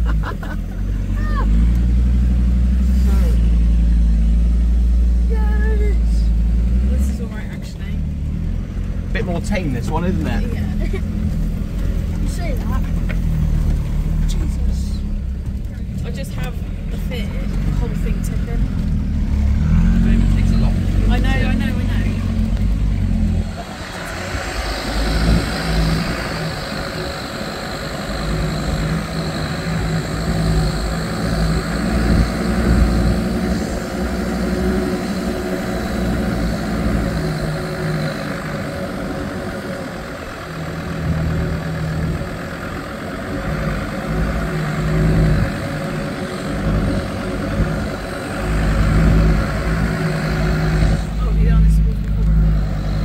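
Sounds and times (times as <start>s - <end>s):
car engine running: 0.0s - 53.0s.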